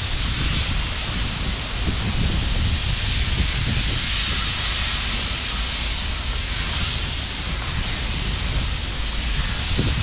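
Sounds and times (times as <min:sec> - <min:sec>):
open-air hiss: 0:00.0 - 0:10.0
wind buffeting microphone: 0:00.0 - 0:10.0.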